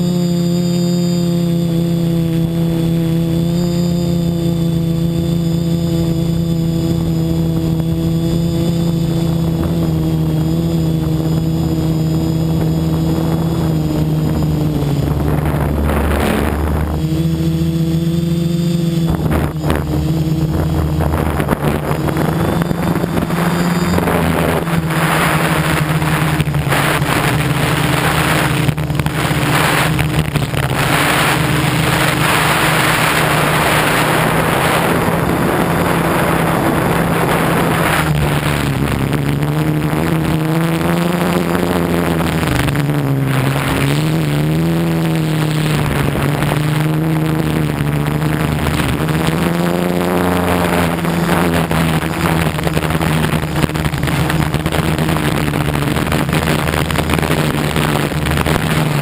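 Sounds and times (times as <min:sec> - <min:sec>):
quadcopter propellers buzzing: 0:00.0 - 0:59.0
wind noise on microphone: 0:00.0 - 0:59.0.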